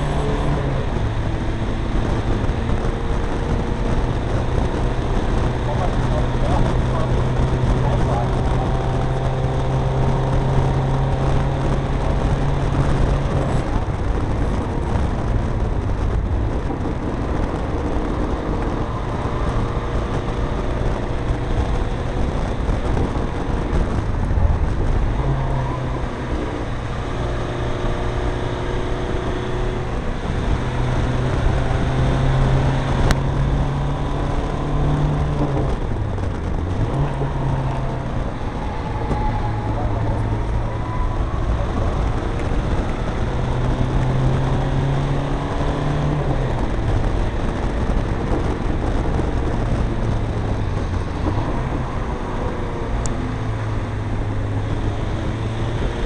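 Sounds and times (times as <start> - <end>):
diesel engine pulling steadily: 0.0 - 56.0
road and wind noise: 0.0 - 56.0.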